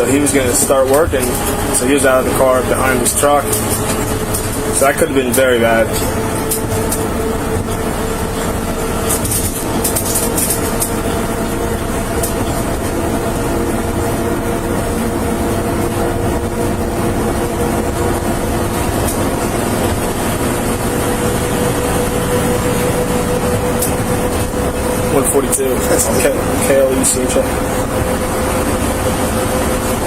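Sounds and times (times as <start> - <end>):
constant hum: 0.0 - 30.0
vehicle engine and road noise: 0.0 - 30.0.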